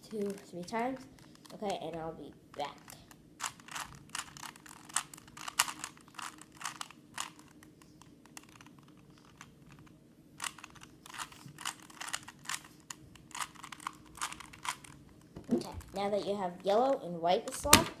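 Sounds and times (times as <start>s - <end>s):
puzzle cube clicking and rattling: 0.1s - 17.7s.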